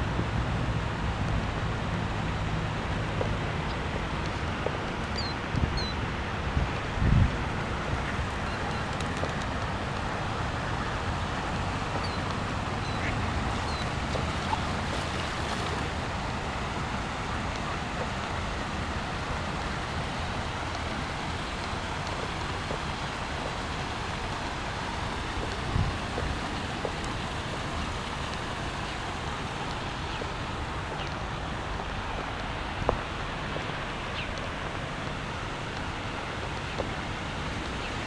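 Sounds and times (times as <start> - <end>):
steady rushing noise: 0.0 - 38.0.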